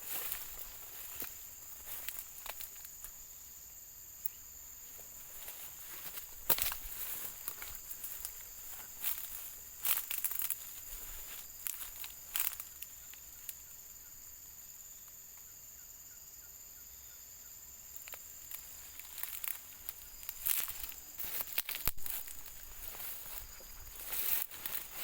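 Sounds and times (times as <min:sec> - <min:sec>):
rustling in vegetation: 0:00.0 - 0:03.8, 0:04.4 - 0:13.7, 0:18.0 - 0:25.0
high-pitched insect chorus: 0:00.0 - 0:25.0.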